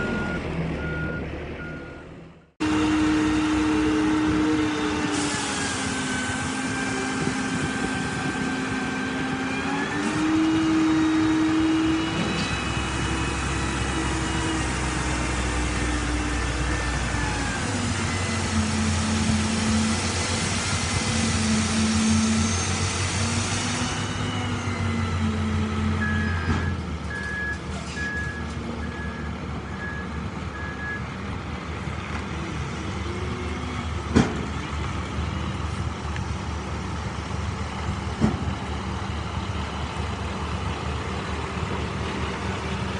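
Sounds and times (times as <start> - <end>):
diesel truck engine revving: 0.0 - 42.9.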